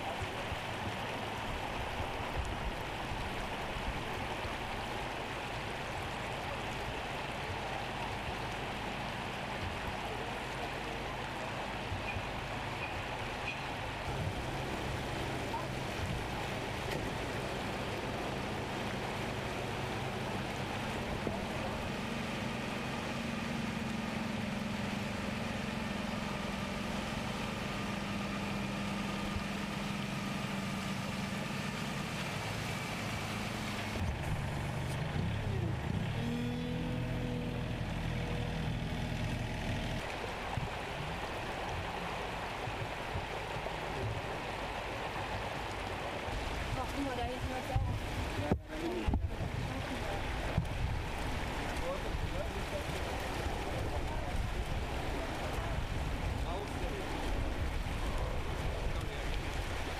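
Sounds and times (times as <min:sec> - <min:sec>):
floodwater rushing: 0:00.0 - 0:59.9
low engine hum: 0:00.0 - 0:59.9.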